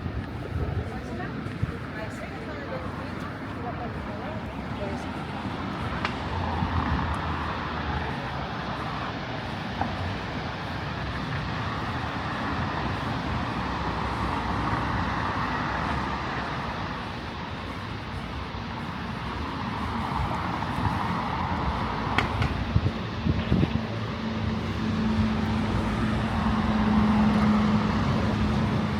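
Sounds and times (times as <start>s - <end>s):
road traffic hum: 0.0s - 28.9s.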